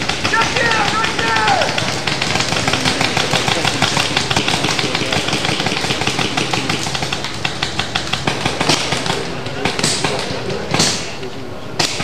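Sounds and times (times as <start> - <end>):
paintball markers firing: 0.0 - 11.2, 11.8 - 12.0.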